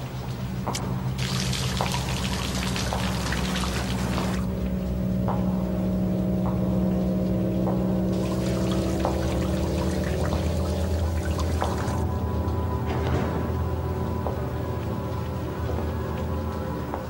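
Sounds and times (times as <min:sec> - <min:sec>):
rain-like hiss: 0:00.0 - 0:17.0
steady low drone: 0:00.0 - 0:17.0
footsteps on wet floor: 0:00.1 - 0:04.5, 0:05.2 - 0:17.0.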